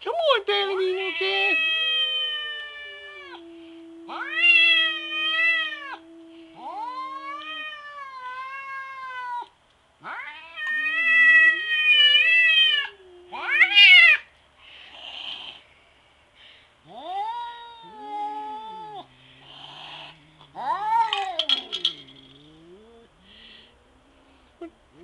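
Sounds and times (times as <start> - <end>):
cats yowling: 0.8 - 14.3, 16.8 - 25.0.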